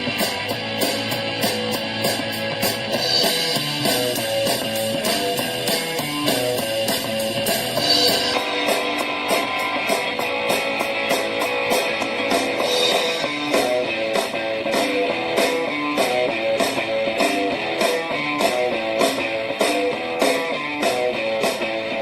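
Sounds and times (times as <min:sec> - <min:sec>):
rock music through small speaker: 0:00.0 - 0:22.0.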